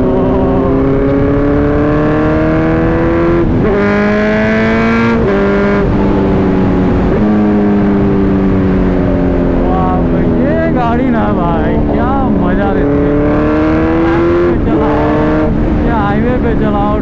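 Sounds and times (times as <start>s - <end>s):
motorcycle engine revving: 0.0s - 17.0s
wind rush: 0.0s - 17.0s.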